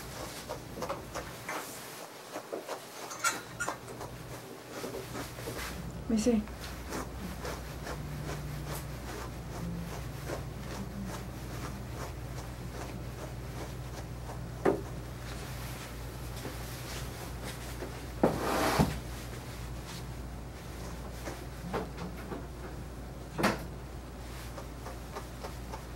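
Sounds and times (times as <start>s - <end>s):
brush raking through dog fur: 0.0s - 21.5s.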